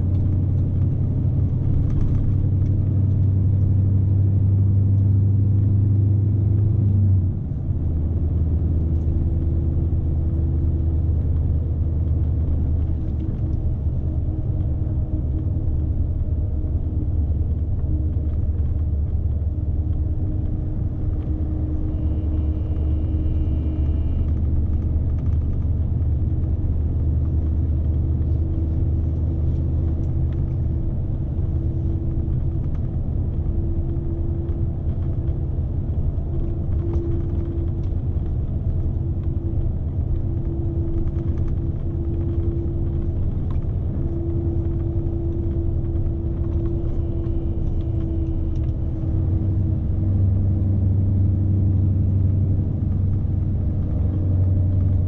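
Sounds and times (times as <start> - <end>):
road rumble: 0.0 - 55.0
truck diesel engine drone: 0.0 - 55.0.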